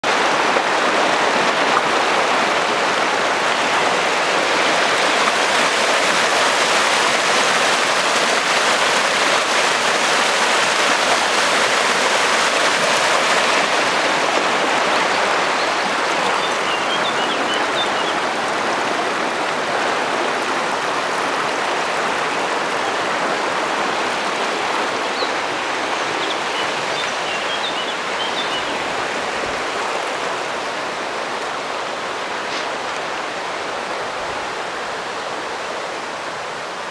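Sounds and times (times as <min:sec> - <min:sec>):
river rushing: 0:00.0 - 0:36.9.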